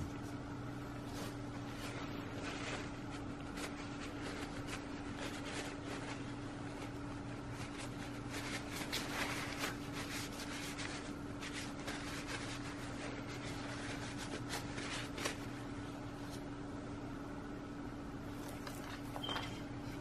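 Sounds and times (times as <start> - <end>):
paper towel rustling on shears: 0.0 - 16.6, 18.2 - 20.0
steady background hum: 0.0 - 20.0.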